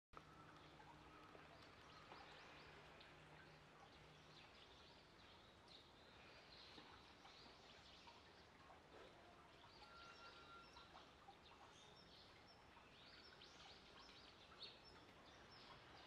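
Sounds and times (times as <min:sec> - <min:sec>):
small birds chirping faintly: 0:00.2 - 0:16.0.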